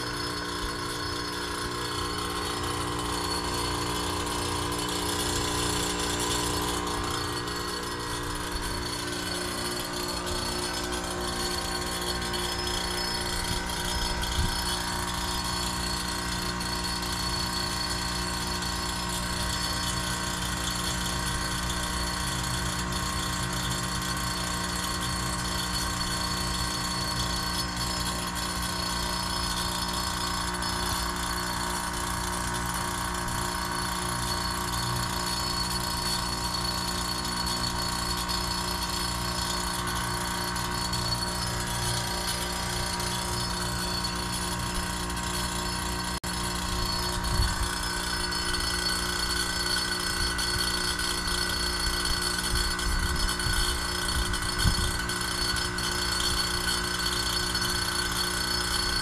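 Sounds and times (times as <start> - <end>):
heat pump humming: 0.0 - 59.0.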